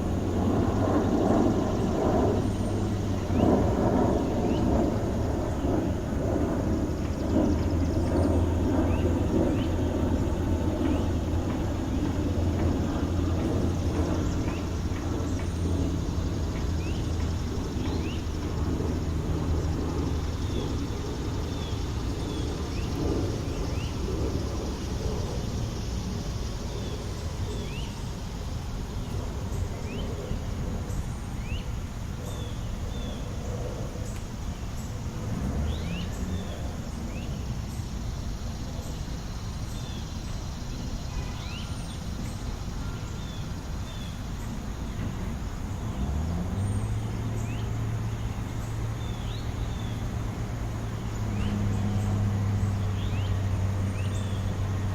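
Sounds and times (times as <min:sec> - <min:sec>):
passing traffic rumble: 0:00.0 - 0:54.9
steady outdoor hum: 0:00.0 - 0:54.9.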